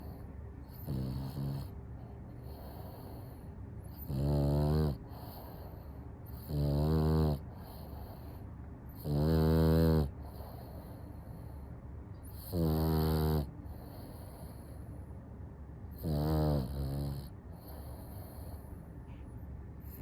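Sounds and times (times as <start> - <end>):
dog snoring: 0.0 - 15.0, 15.9 - 18.8, 19.8 - 20.0.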